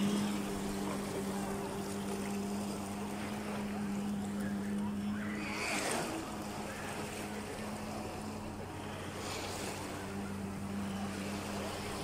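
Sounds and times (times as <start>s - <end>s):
distant jet ski engine droning: 0.0s - 12.0s
sea water washing: 0.0s - 12.0s.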